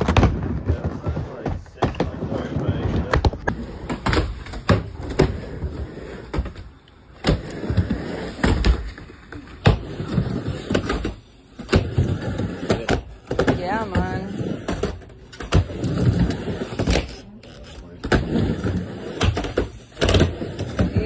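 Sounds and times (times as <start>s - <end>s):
skateboard wheels rumbling: 0.0s - 17.2s, 18.0s - 21.0s.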